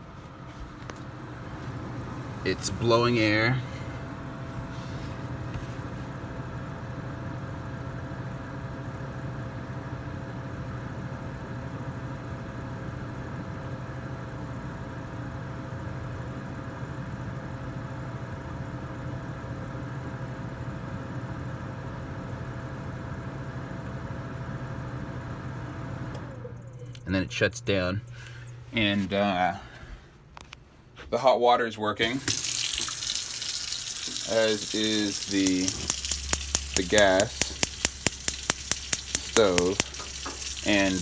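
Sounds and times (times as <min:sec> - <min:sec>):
blower fan humming with whine: 0:00.0 - 0:41.0.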